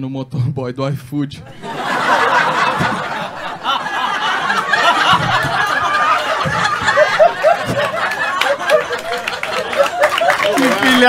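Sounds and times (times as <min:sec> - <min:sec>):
audience laughing: 0:01.5 - 0:11.0.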